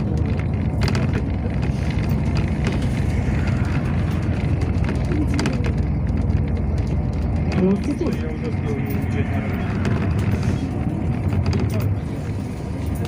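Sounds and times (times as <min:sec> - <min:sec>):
bus cabin low rumble: 0:00.0 - 0:13.0.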